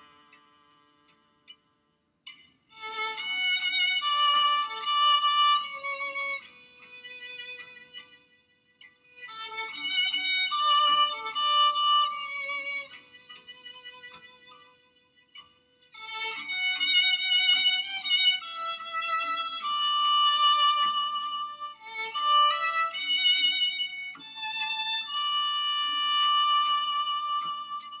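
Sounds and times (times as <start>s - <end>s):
violin melody: 2.7s - 8.4s, 9.0s - 15.1s, 15.7s - 28.0s.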